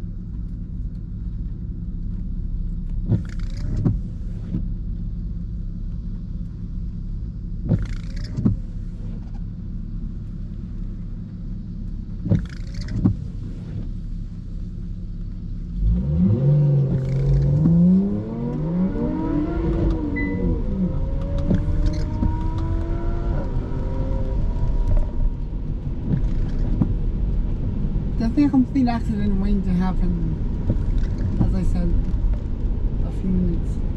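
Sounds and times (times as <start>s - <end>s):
car engine accelerating: 0.0s - 33.9s
car road rumble on wet road: 0.0s - 33.9s
windscreen wipers sweeping: 0.1s - 6.3s, 7.2s - 33.9s.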